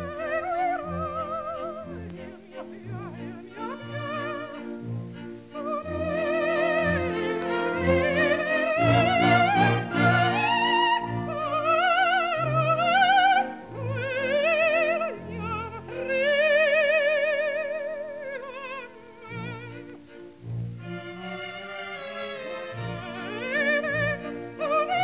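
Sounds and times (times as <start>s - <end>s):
orchestral accompaniment: 0.0s - 17.3s, 18.5s - 25.0s
operatic soprano singing: 0.0s - 20.0s, 20.9s - 25.0s.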